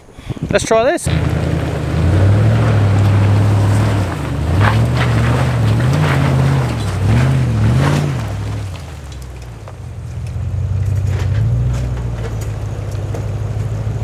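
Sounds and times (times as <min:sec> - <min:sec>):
truck engine revving: 0:01.0 - 0:14.0.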